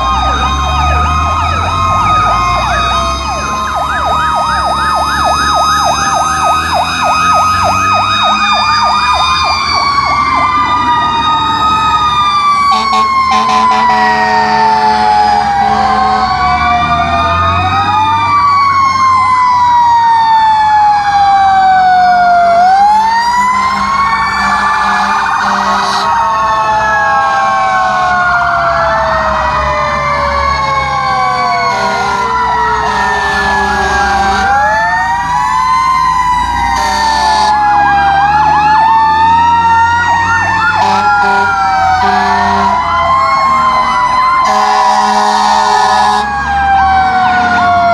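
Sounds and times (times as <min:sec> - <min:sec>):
fast warbling siren yelp: 0:00.0 - 0:47.9
fire truck sirens wailing: 0:00.0 - 0:47.9.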